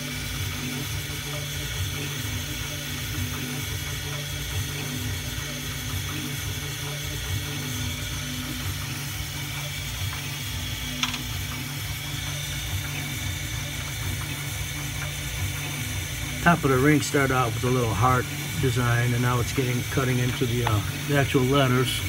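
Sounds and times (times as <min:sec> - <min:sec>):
cnc mill humming: 0:00.0 - 0:22.0.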